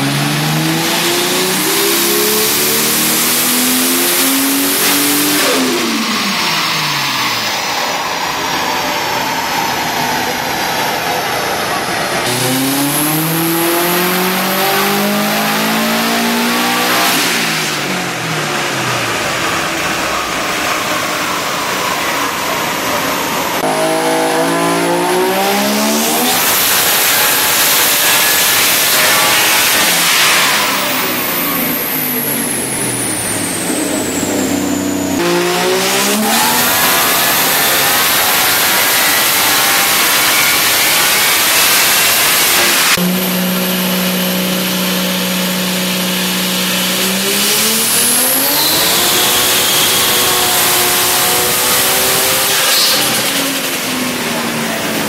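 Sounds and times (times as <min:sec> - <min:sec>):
car engines at full throttle: 0:00.0 - 0:55.0.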